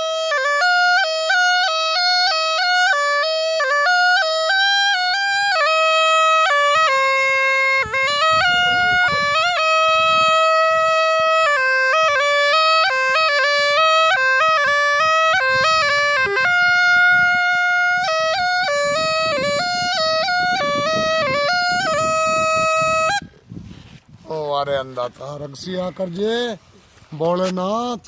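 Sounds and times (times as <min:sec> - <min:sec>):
snake charmer's pipe melody: 0:00.0 - 0:27.8.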